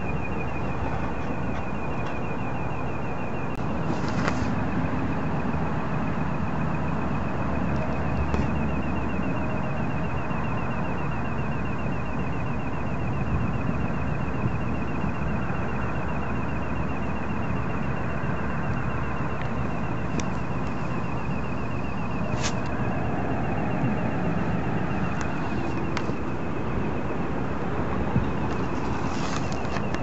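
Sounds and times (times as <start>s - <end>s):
high-pitched pulsating tone: 0.0s - 30.0s.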